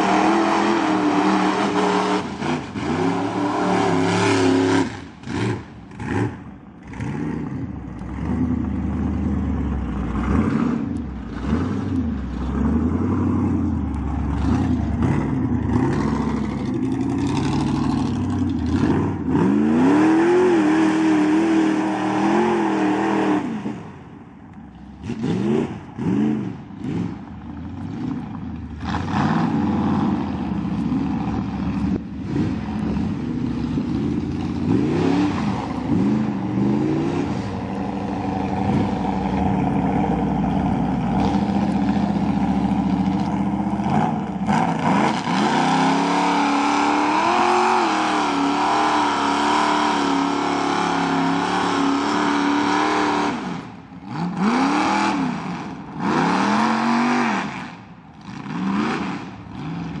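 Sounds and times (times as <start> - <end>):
truck engines revving: 0.0 - 60.0.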